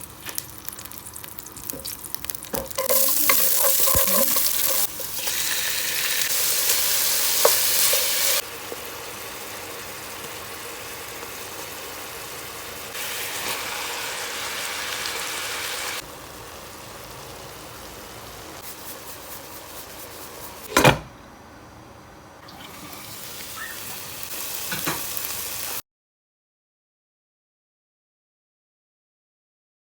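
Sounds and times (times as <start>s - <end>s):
food sizzling in a pan: 0.0s - 20.7s, 22.5s - 25.8s.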